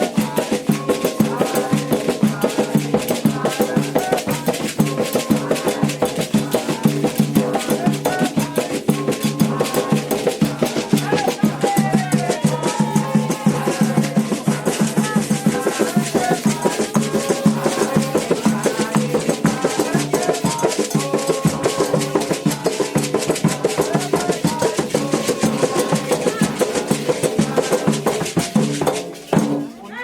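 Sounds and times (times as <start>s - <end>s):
hand drums beating fast rhythm: 0.0s - 30.0s
voices singing: 0.0s - 30.0s.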